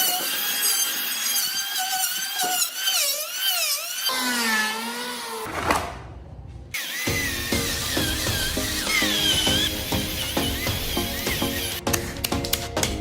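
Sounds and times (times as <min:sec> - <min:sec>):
high-speed power tool whining: 0:00.0 - 0:05.5, 0:06.8 - 0:11.8.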